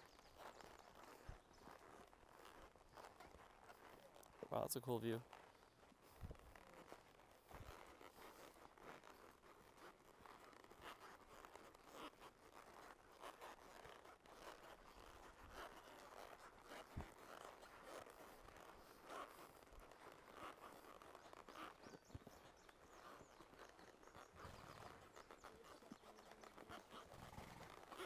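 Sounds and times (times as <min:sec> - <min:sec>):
horse hoof steps on dirt: 0:00.0 - 0:04.5, 0:05.2 - 0:28.0.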